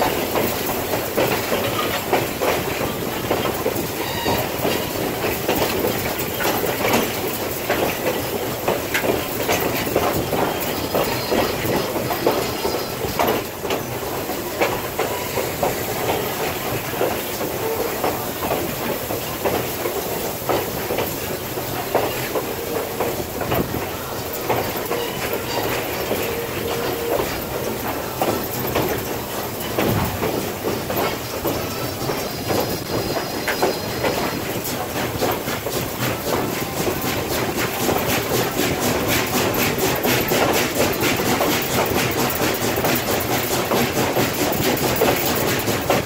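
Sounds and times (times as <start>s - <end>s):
train car knocking and rattling: 0.0s - 46.0s
train running noise: 0.0s - 46.0s
train wheels clacking: 0.0s - 46.0s.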